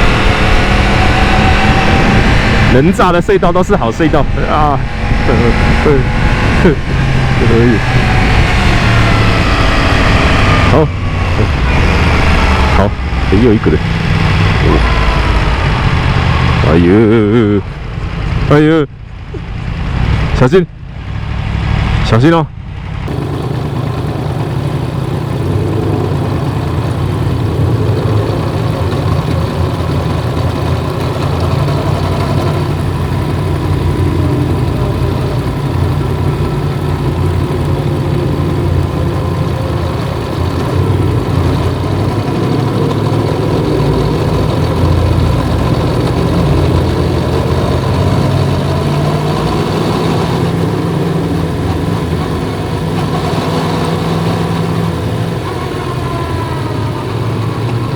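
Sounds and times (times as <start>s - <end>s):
motorcycle engine running: 0.0s - 17.3s, 22.7s - 57.9s.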